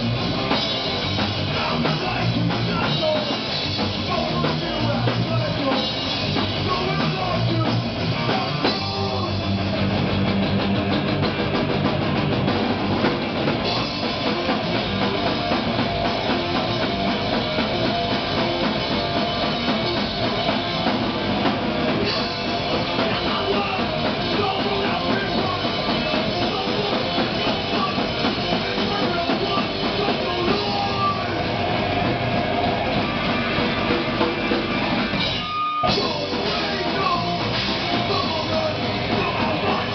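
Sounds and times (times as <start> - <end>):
bass: 0.0 - 39.9
drum kit: 0.0 - 39.9
electric guitar: 0.0 - 39.9.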